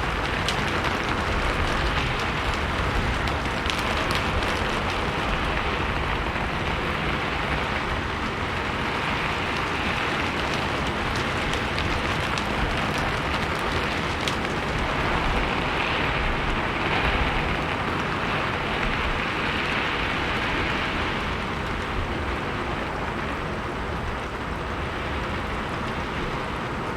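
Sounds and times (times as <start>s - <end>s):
rain falling on a rooftop: 0.0s - 26.9s.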